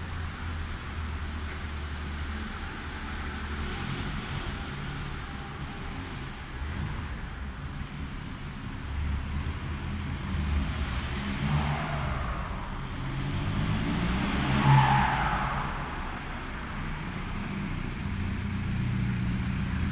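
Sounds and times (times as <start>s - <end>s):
diesel engine through straight pipe: 0.0s - 19.9s.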